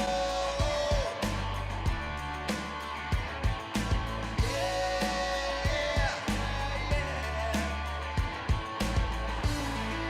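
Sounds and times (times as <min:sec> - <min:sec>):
rock music with electric guitar: 0:00.0 - 0:10.0
steady drum beat: 0:00.0 - 0:10.0.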